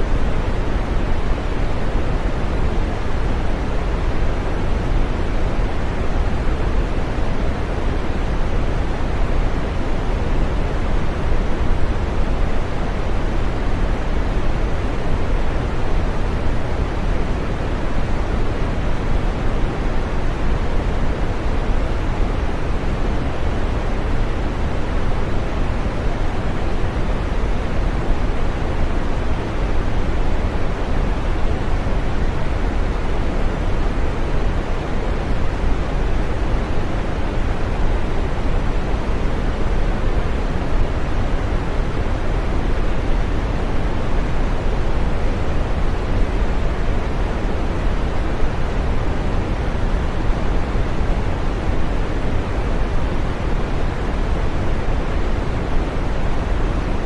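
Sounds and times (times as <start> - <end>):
steady green noise: 0.0 - 57.0.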